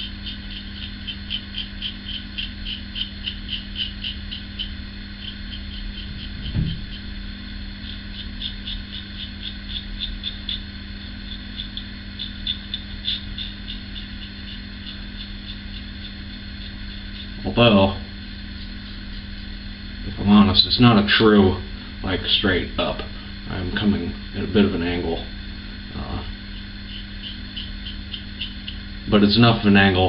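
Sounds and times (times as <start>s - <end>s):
razor scraping stubble: 0.0s - 21.2s, 22.0s - 30.0s
steady low hum: 0.0s - 30.0s.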